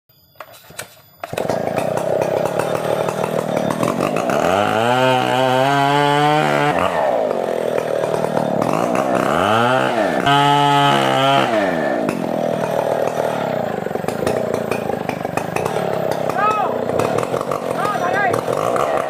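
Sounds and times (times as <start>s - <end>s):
chainsaw revving: 1.2s - 19.0s.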